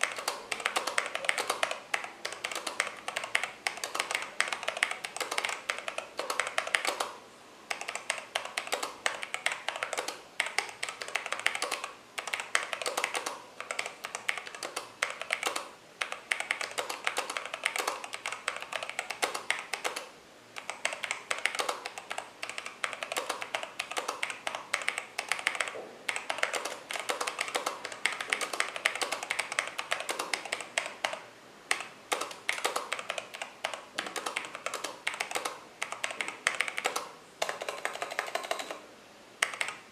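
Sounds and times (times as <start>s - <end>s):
mechanical keyboard typing: 0.0s - 38.8s, 39.4s - 39.9s.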